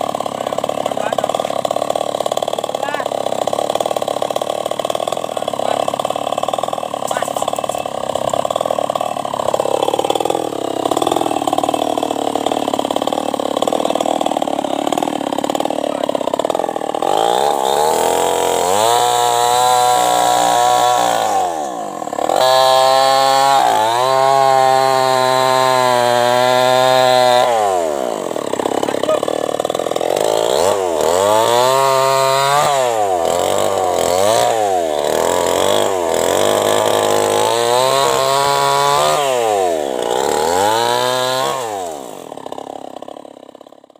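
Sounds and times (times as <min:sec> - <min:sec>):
chainsaw cutting through log: 0:00.0 - 0:43.9.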